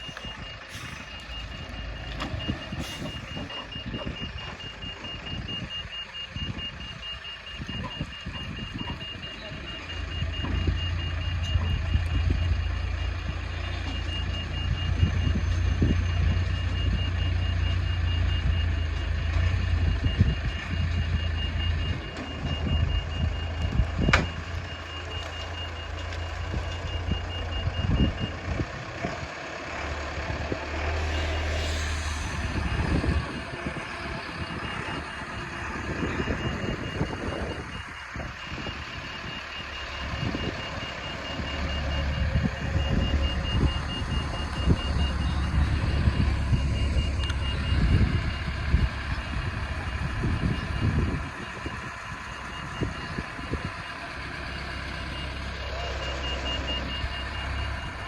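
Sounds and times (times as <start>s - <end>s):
diesel engine running: 0.0s - 58.0s
reversing alarm beeping: 0.0s - 58.0s.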